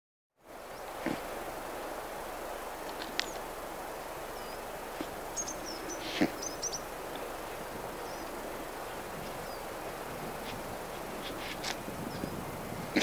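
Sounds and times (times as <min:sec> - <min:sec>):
outdoor background hiss: 0:00.4 - 0:13.0.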